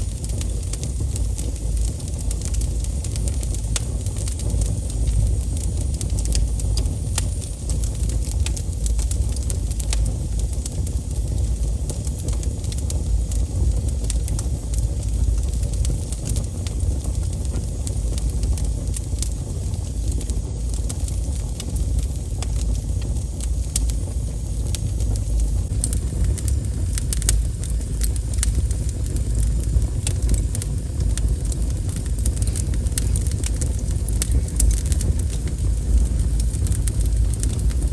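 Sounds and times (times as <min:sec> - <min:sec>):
fire pops and snaps: 0:00.0 - 0:37.9
steady low rumble: 0:00.0 - 0:37.9
wood fire crackling: 0:00.0 - 0:37.9.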